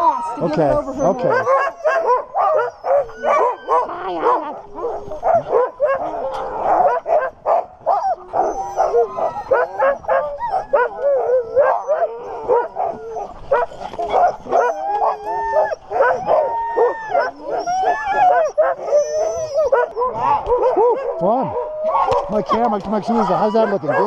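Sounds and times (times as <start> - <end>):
dogs barking yipping and howling: 0.0 - 24.0.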